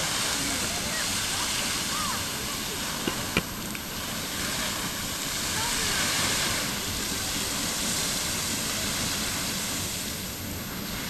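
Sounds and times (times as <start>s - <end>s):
geyser rush of water and steam: 0.0s - 11.0s.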